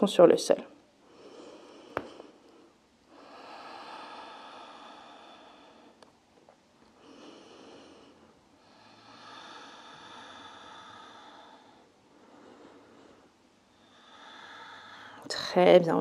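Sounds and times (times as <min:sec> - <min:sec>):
woman breathing slowly: 0:00.9 - 0:15.4.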